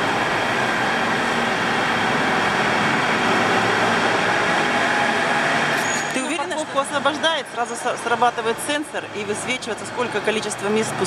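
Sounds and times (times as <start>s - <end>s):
car moving through parking garage: 0.0s - 11.0s.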